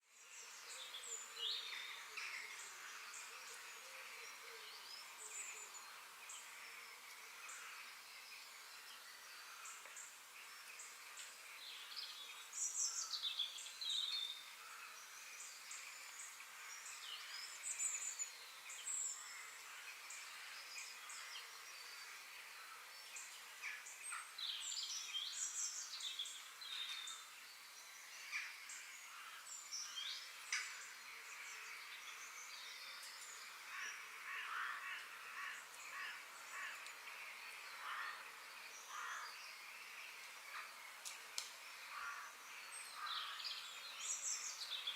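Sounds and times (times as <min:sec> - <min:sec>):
steady background hiss: 0:00.1 - 0:44.9.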